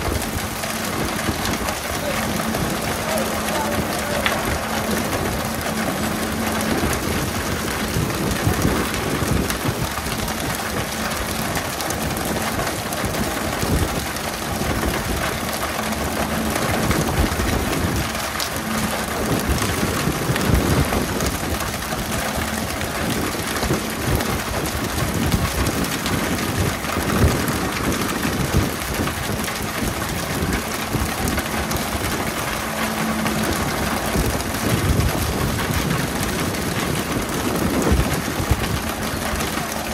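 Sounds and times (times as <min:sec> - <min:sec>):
boat engine humming: 0:00.0 - 0:39.9
water sprayers hissing: 0:00.0 - 0:39.9.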